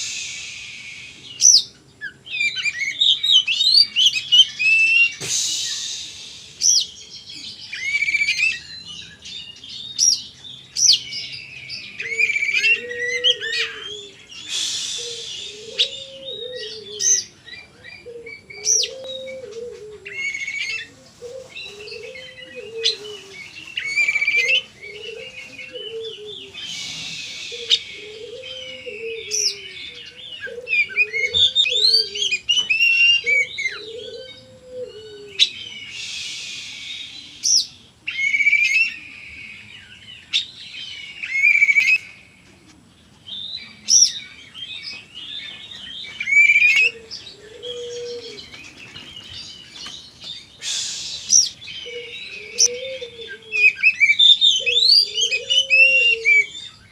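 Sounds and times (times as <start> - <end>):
songbird whistling and chattering: 0.0 - 42.3, 43.3 - 56.9.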